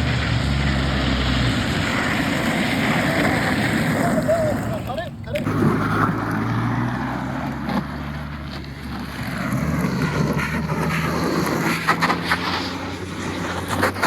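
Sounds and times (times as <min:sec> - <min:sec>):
vehicle engine hum: 0:00.0 - 0:14.0
wind and road noise: 0:00.0 - 0:14.0.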